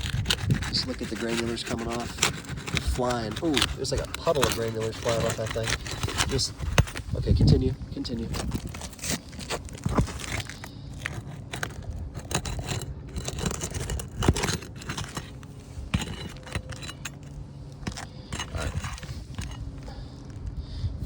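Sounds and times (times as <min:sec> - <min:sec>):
metal bar scraping under shingle: 0:00.0 - 0:20.5.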